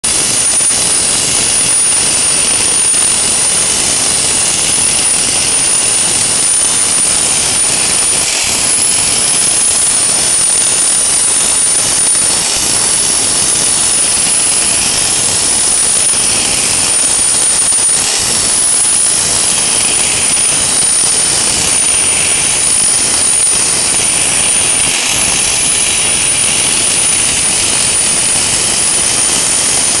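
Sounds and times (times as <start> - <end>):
blasting nozzle hissing: 0.0 - 30.0
high whistle: 0.0 - 30.0.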